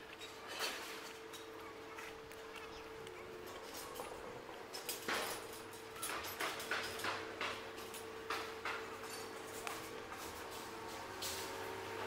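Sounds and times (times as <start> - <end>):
construction machinery hum: 0.0 - 12.0.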